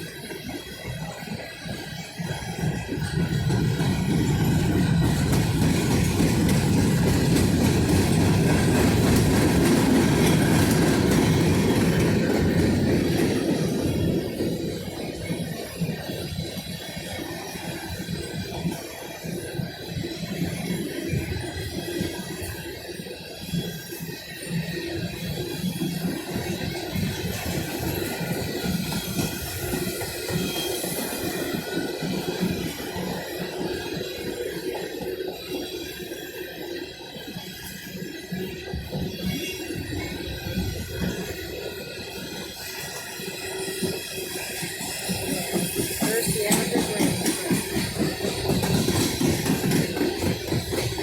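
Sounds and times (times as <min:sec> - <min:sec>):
clickety-clack over rail joints: 0:00.0 - 0:51.0
train wheels rumbling on rails: 0:00.0 - 0:51.0.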